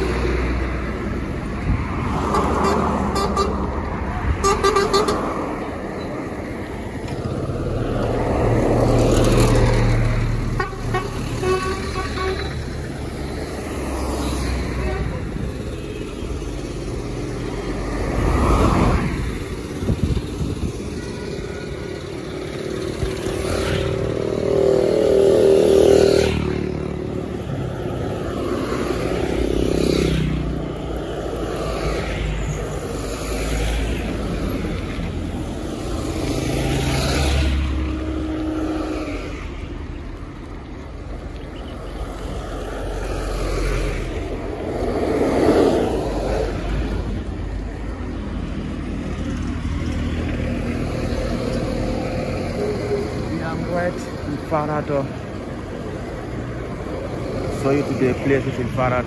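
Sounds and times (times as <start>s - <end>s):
motor vehicles passing: 0.0s - 59.0s.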